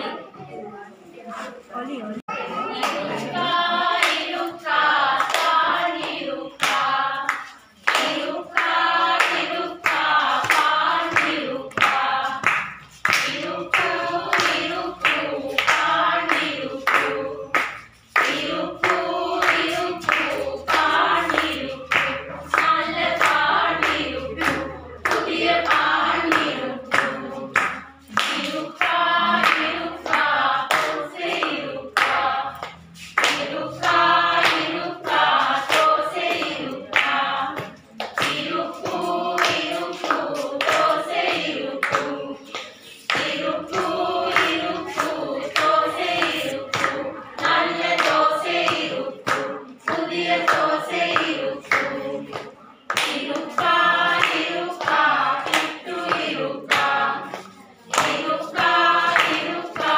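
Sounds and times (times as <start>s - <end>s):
group of people singing: 0.0s - 1.7s, 2.3s - 59.9s
hands clapping to the beat: 2.7s - 59.9s.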